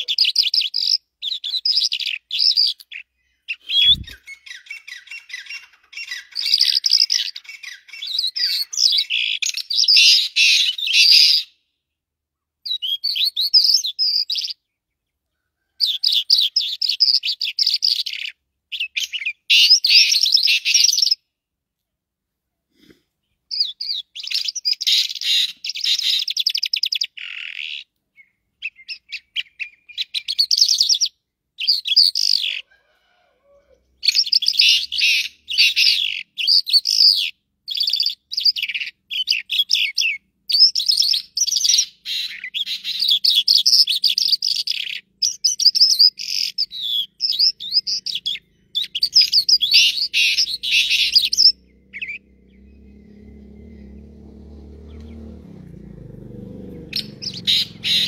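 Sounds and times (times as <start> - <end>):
lark singing high chirps: 0.0 - 11.6, 12.6 - 14.7, 15.8 - 21.2, 23.5 - 32.6, 34.0 - 54.1, 56.9 - 58.0.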